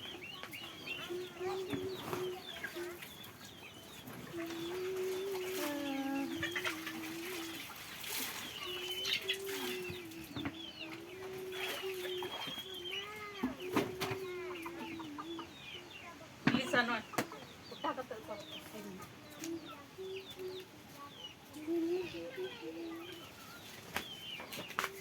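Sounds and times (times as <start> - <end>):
chickens clucking: 0.0 - 25.0
small birds chirping: 0.0 - 25.0.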